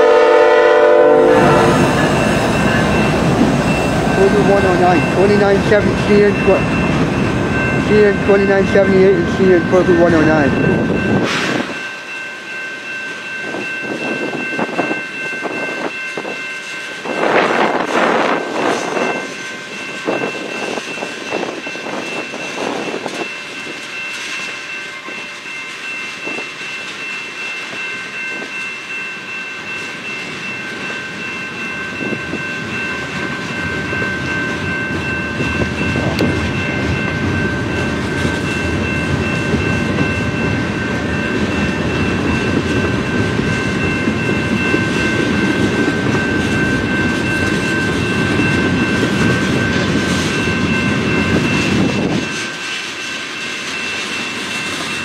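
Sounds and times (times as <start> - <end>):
steady high tone: 0.0 - 55.0
train wheels clattering on rails: 0.8 - 12.1, 17.0 - 55.0.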